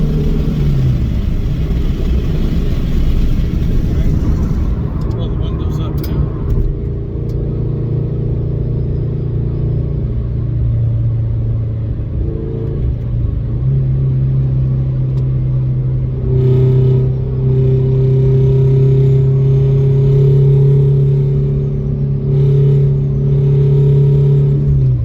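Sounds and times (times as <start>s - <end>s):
car exhaust drone: 0.0s - 25.0s.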